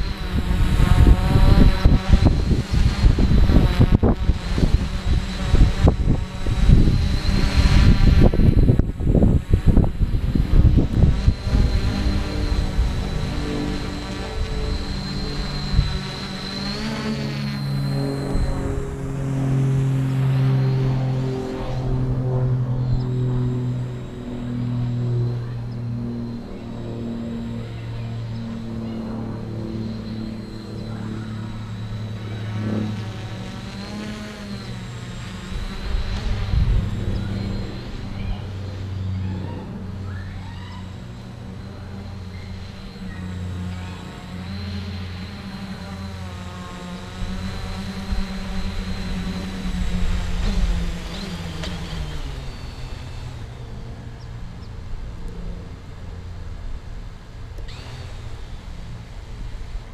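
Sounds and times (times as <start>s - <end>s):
drone propellers buzzing: 0.0s - 59.9s
wind rumbling on microphone: 0.0s - 59.9s.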